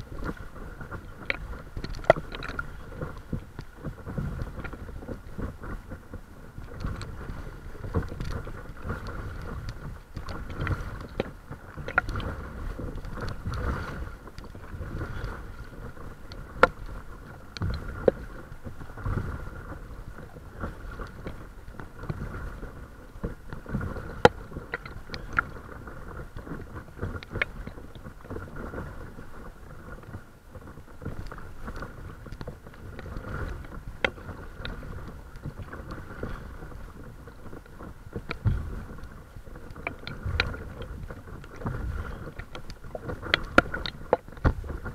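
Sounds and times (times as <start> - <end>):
water lapping against paddleboard: 0.0 - 44.9.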